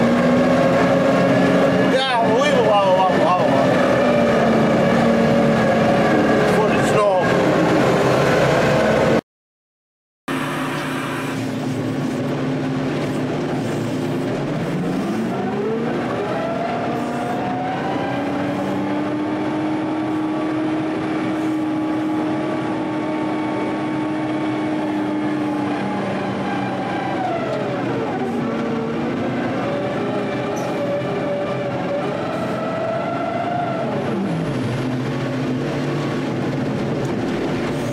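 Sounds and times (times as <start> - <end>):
heavy equipment engine revving: 0.0 - 9.2, 10.3 - 37.9.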